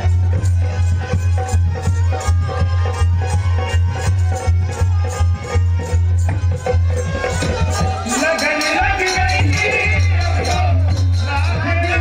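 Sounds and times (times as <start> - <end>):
bowed fiddle sliding melody: 0.0 - 10.7
bells on bow jingling: 0.0 - 12.0.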